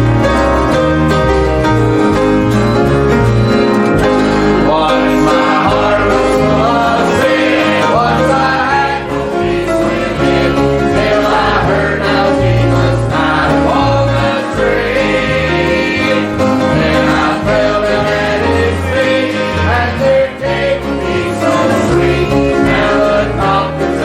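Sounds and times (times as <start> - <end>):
gospel choir singing: 0.0 - 24.0
instrumental accompaniment with bass: 0.0 - 24.0.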